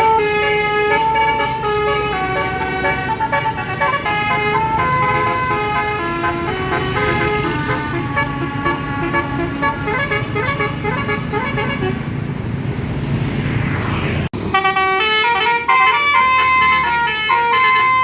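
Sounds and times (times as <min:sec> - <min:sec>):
musical bus horn melody: 0:00.0 - 0:12.1, 0:14.4 - 0:18.0.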